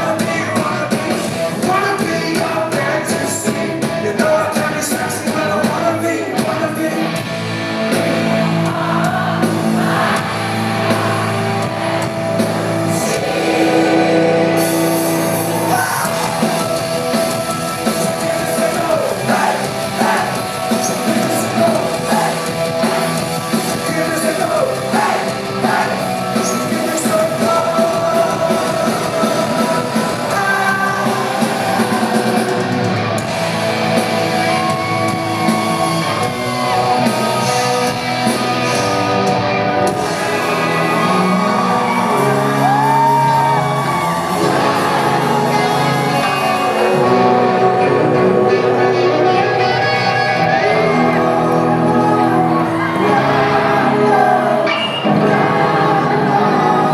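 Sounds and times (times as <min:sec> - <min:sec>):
electric guitar: 0:00.0 - 0:56.9
lead vocal singing: 0:00.0 - 0:56.9
live rock band playing: 0:00.0 - 0:56.9.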